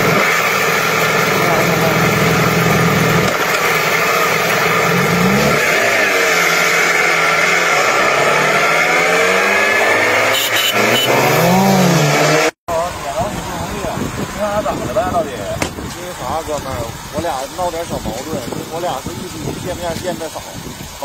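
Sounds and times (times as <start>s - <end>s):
motorcycle engines accelerating: 0.0s - 21.0s
wind and road noise: 0.0s - 21.0s.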